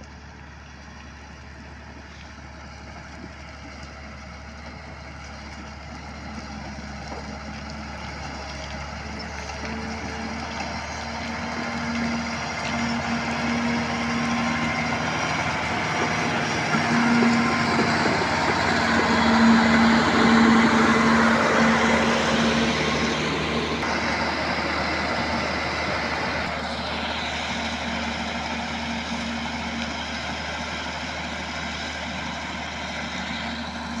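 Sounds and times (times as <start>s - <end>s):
diesel construction vehicle running: 0.0s - 34.0s.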